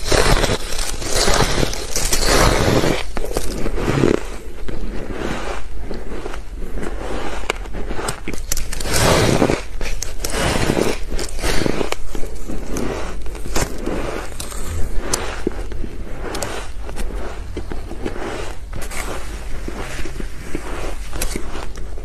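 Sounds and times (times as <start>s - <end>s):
chewing crunchy ice: 0.0s - 22.0s.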